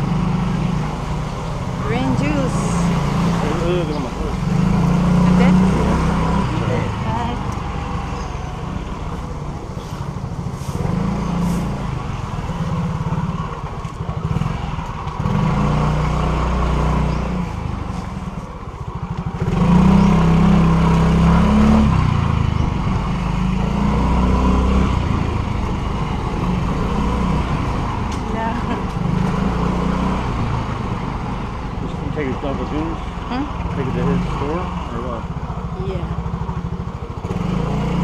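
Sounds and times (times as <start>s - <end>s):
street traffic: 0.0s - 38.0s
motor scooter engine running: 1.7s - 38.0s.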